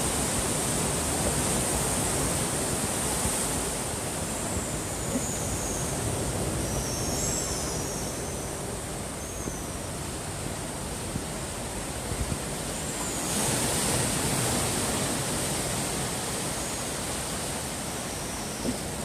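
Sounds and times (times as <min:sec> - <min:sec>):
ocean surf washing ashore: 0:00.0 - 0:19.0.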